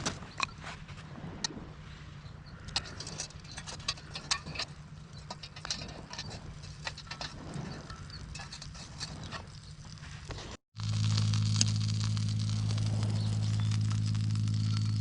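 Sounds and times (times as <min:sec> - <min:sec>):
low steady hum: 0:00.0 - 0:15.0
campfire crackling and popping: 0:02.7 - 0:15.0.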